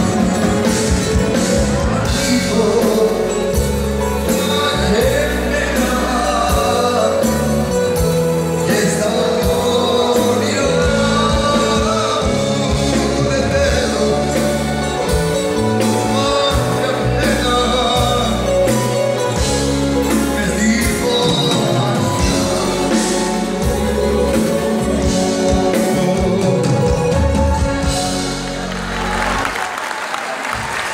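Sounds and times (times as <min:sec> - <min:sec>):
person singing: 0:00.0 - 0:29.6
bass: 0:00.0 - 0:30.9
live band music: 0:00.0 - 0:30.9.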